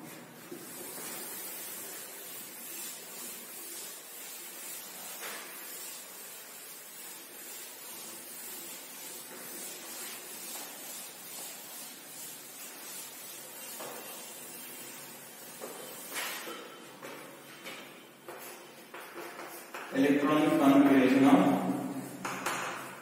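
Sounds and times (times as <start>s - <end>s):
duster wiping a chalkboard: 0.0s - 23.0s.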